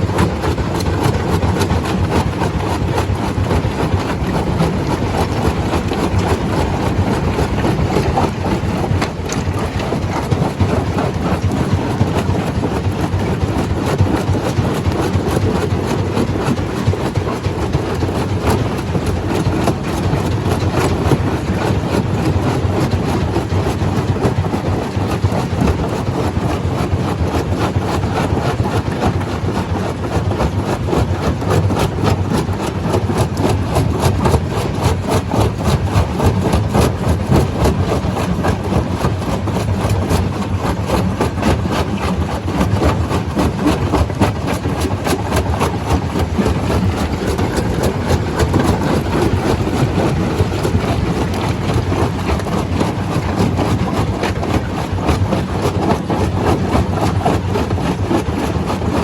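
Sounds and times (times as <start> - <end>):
stone crusher rumbling and rattling: 0.0 - 59.0.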